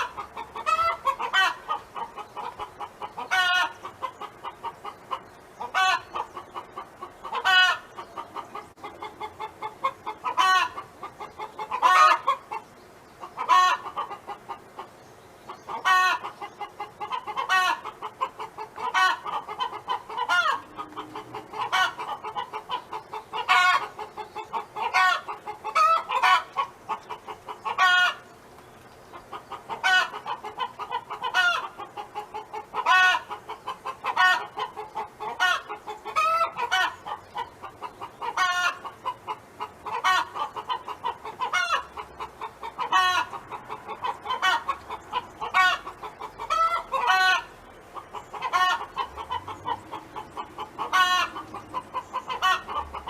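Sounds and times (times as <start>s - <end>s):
hen clucking: 0.0s - 53.0s.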